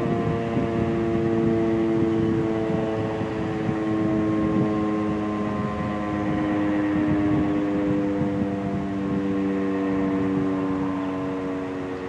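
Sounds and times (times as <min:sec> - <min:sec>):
warning siren sounding: 0:00.0 - 0:12.0.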